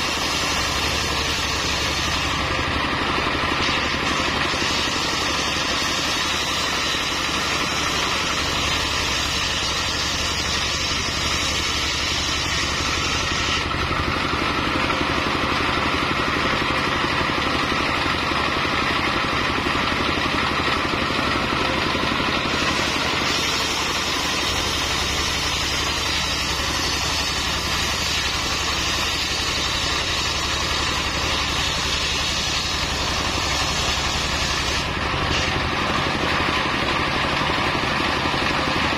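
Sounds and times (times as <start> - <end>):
circular saw cutting wood: 0.0 - 38.9
diesel engine running: 0.0 - 38.9.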